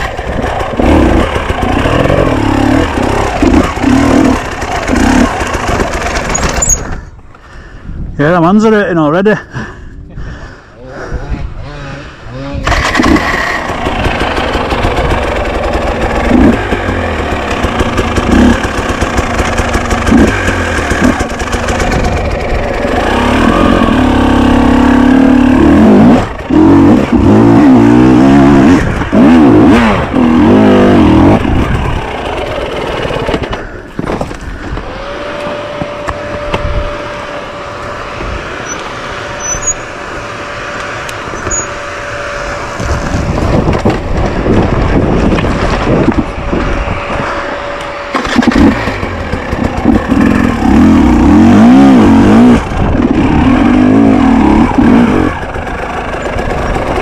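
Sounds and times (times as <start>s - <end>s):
dirt bike engine revving: 0.0s - 7.0s, 10.8s - 57.0s.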